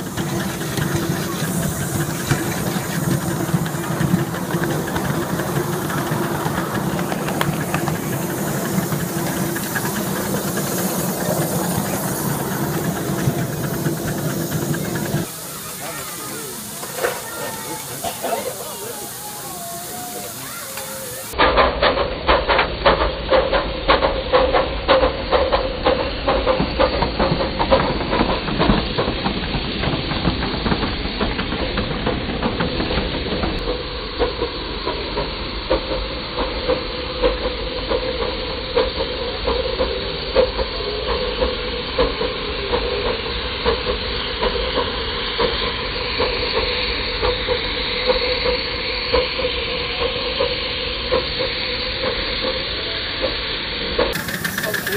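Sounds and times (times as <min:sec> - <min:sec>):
steam hiss: 0:00.0 - 0:54.9
steam locomotive exhaust chuffs: 0:00.0 - 0:54.9.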